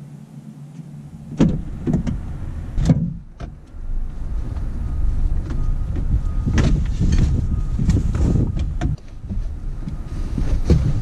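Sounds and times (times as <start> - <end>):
steady outside rumble: 0.0 - 11.0
car door opening: 0.8 - 11.0
knocks and clunks: 0.8 - 11.0.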